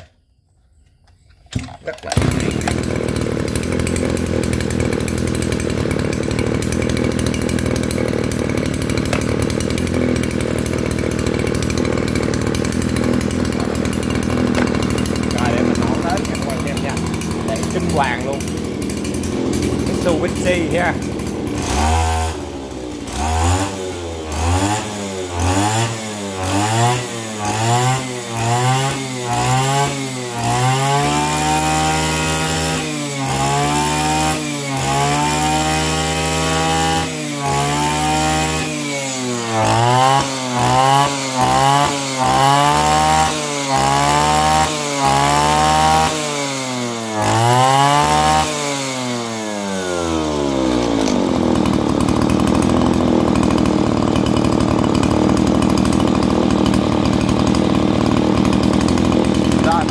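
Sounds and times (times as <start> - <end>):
brush cutter engine revving: 1.5 - 59.9.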